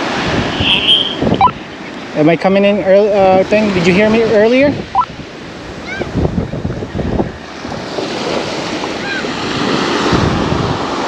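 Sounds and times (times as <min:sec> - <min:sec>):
wind buffeting microphone: 0:00.0 - 0:02.2, 0:02.8 - 0:11.0
surf rushing: 0:00.0 - 0:11.0.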